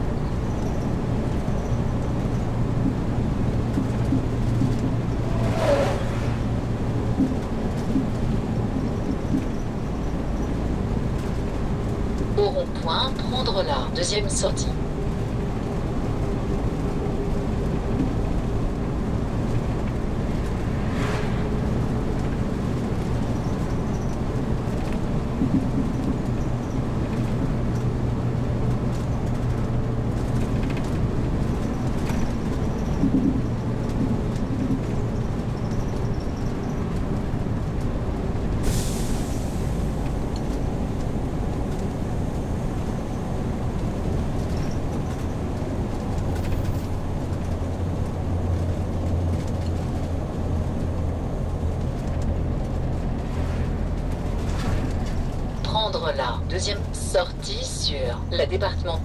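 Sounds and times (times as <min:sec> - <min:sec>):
motorhome engine and road rumble: 0:00.0 - 0:59.0.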